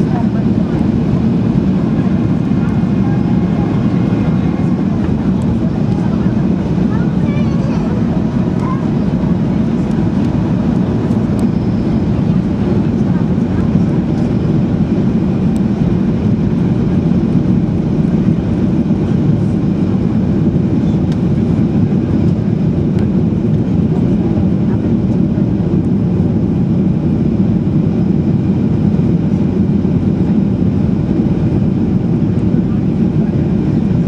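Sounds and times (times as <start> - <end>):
aircraft cabin engine rumble: 0.0 - 34.0.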